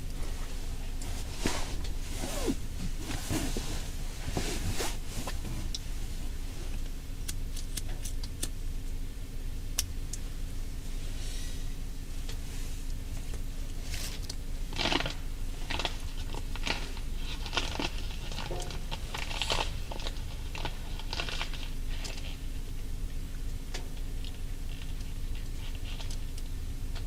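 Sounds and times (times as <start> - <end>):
crunching and crinkling: 0.0 - 9.1, 12.2 - 27.0
steady low hum: 0.0 - 27.0.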